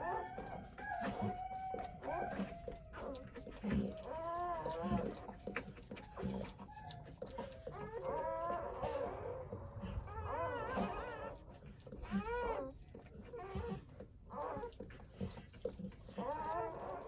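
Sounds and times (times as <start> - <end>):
puppies crying high squeals: 0.0 - 14.8, 16.1 - 17.0.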